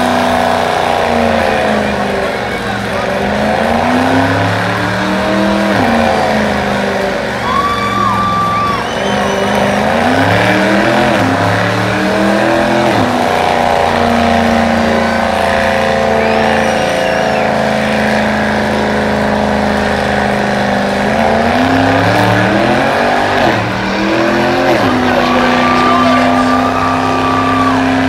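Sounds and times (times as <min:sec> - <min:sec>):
engine revving at high revs: 0:00.0 - 0:28.0
spinning tires hissing: 0:00.0 - 0:28.0.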